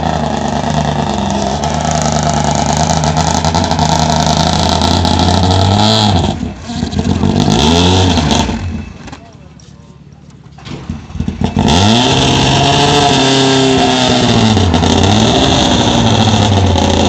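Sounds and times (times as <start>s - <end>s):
engine throttle blips: 0.0s - 17.0s
rally car engine: 0.0s - 17.0s.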